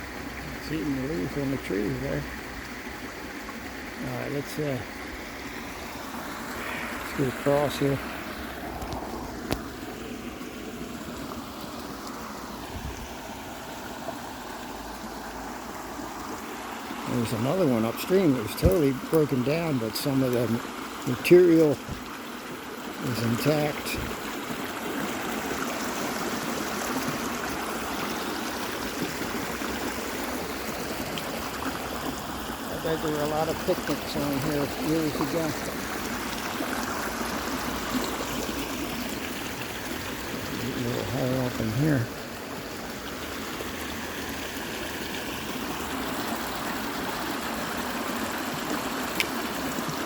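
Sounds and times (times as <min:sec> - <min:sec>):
water rushing over falls: 0:00.0 - 0:50.0.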